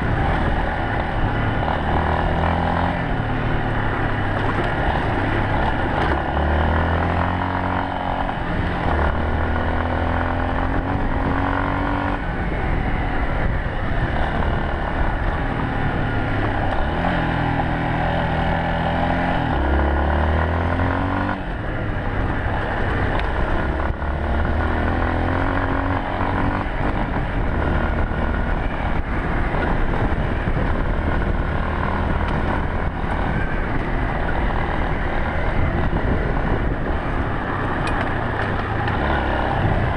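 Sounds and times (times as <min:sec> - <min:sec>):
motorcycle engine accelerating: 0:00.0 - 0:39.9
steady rushing noise: 0:00.0 - 0:39.9.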